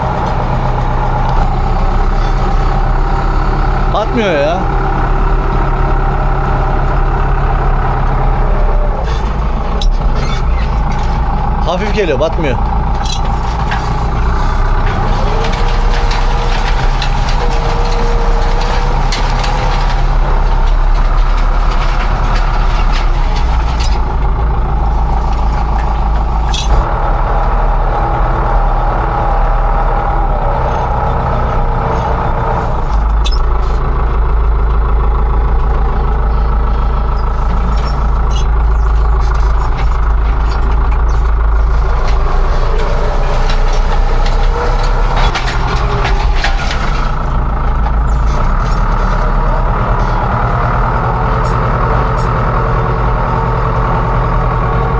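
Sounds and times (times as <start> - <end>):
farm machine engine droning: 0.0 - 54.9.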